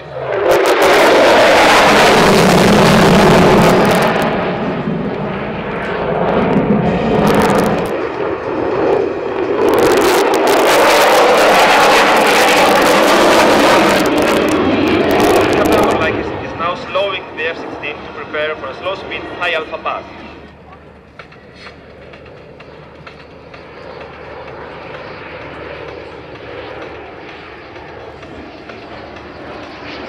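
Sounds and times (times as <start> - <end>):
jet engine roar: 0.0 - 30.0.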